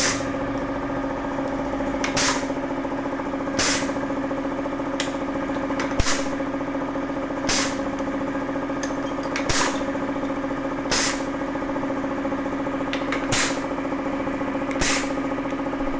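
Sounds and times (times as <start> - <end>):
machine humming: 0.0 - 15.9.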